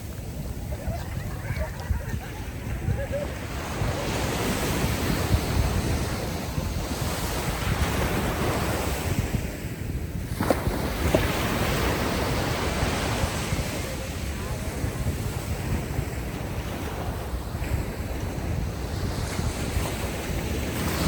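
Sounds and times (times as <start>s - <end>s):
ocean waves washing onto beach: 0.0s - 21.0s
wind: 0.0s - 21.0s.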